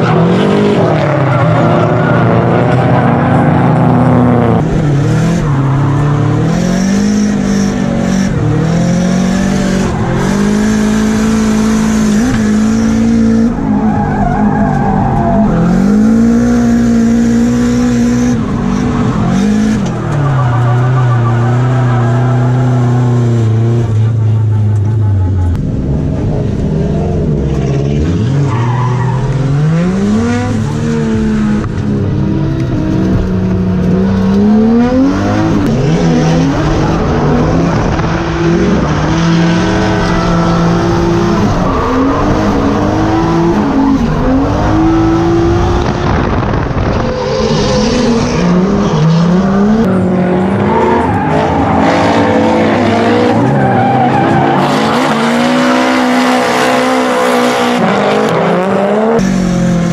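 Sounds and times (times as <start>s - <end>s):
tires skidding and squealing: 0.0s - 16.9s, 17.6s - 25.6s, 26.8s - 31.3s, 34.6s - 59.4s
car engines revving: 0.0s - 59.9s.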